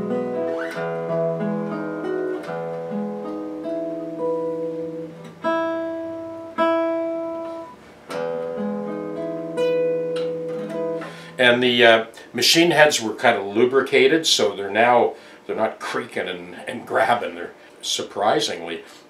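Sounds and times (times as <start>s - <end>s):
acoustic guitar chords: 0.0s - 17.7s.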